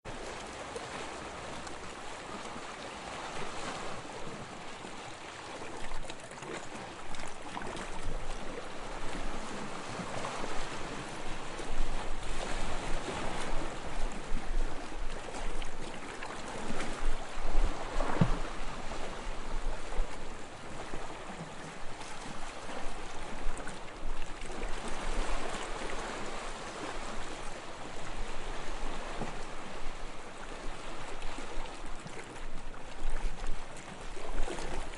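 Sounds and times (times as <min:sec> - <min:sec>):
small waves lapping on sand: 0:00.1 - 0:34.9.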